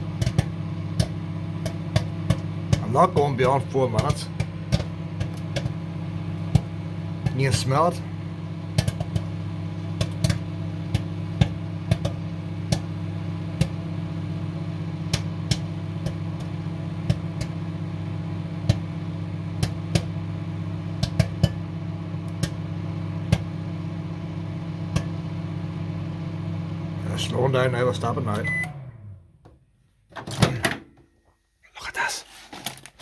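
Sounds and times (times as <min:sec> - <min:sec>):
popcorn popping: 0:00.0 - 0:27.0
microwave oven humming: 0:00.0 - 0:31.5.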